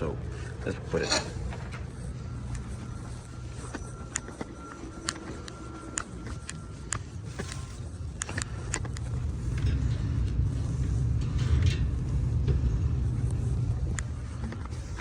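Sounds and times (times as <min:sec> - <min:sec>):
hvac unit humming: 0:00.0 - 0:15.0.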